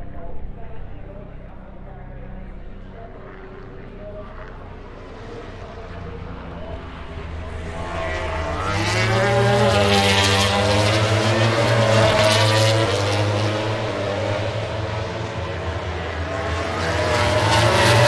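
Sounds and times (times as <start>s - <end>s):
racing motorcycles passing: 1.6s - 18.0s.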